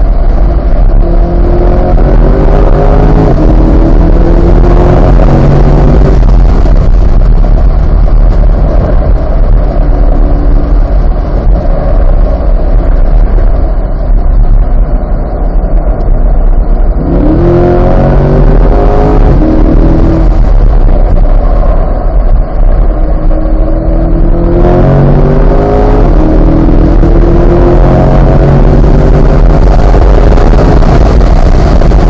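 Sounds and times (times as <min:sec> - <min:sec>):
car engine accelerating: 0:00.0 - 0:32.0
loud steady rushing noise: 0:00.0 - 0:32.0.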